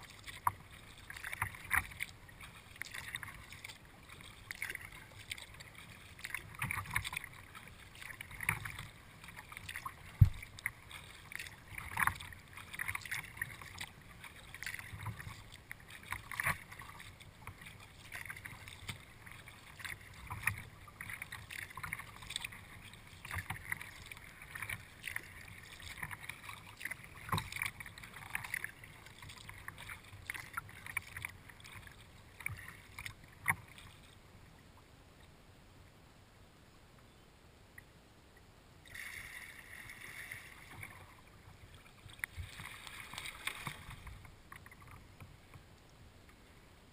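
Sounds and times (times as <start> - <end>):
paddle strokes splashing water: 0.0 - 34.8, 38.8 - 46.6.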